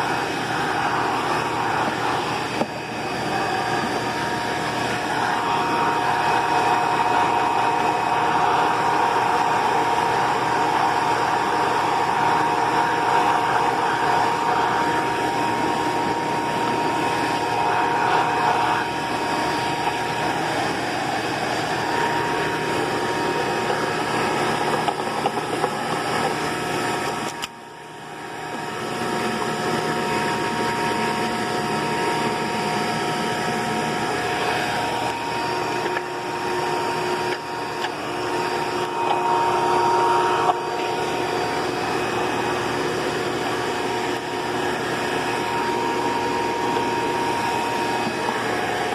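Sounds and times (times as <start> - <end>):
vacuum cleaner whining: 0.0 - 48.9.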